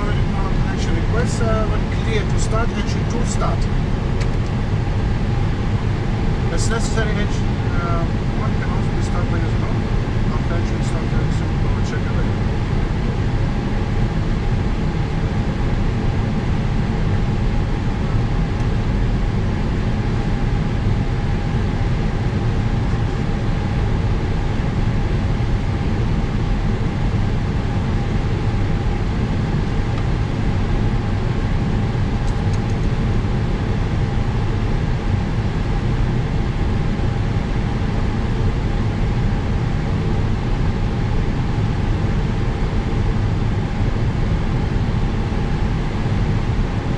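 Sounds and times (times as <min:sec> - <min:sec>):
faint whine tones: 0:00.0 - 0:46.9
jet cockpit rushing hum: 0:00.0 - 0:46.9.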